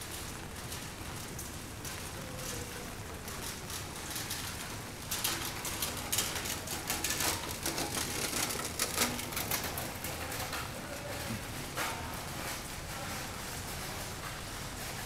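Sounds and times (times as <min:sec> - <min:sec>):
rain patter of clicks and taps: 0:00.0 - 0:15.0.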